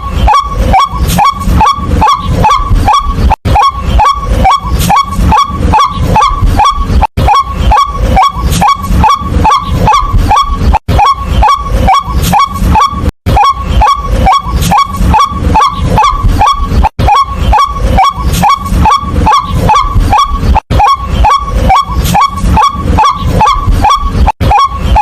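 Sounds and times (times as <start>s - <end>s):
waterhen harsh kwak calls: 0.0s - 25.0s.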